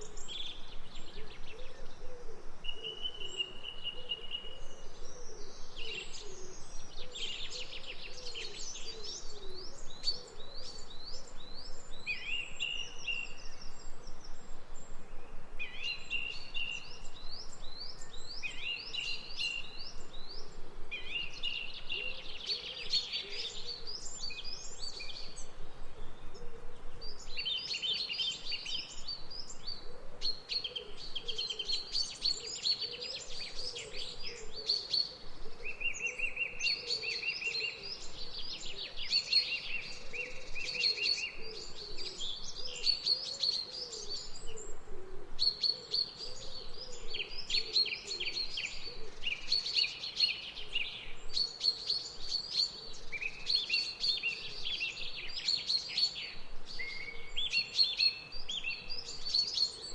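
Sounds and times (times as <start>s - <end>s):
soft outdoor background: 0.0s - 59.9s
songbirds singing trills: 0.0s - 59.9s.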